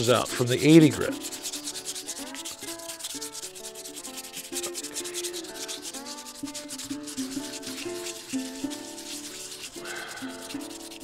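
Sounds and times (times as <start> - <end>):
sandpaper rubbing on stone: 0.0 - 11.0.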